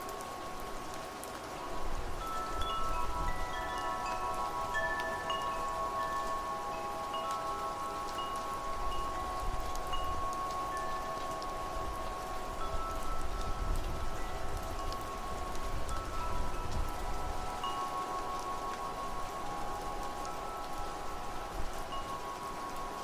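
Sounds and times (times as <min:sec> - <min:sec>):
rain and wind hiss: 0:00.0 - 0:23.0
wind chimes ringing: 0:00.0 - 0:23.0.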